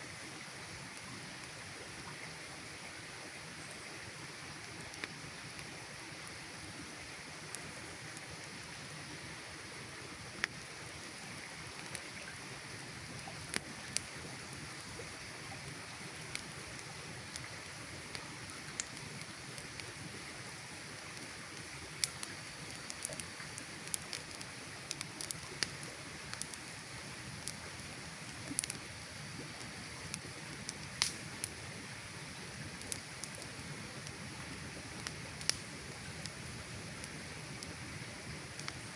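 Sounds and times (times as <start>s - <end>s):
campfire crackling and popping: 0.1s - 2.6s, 3.6s - 38.9s.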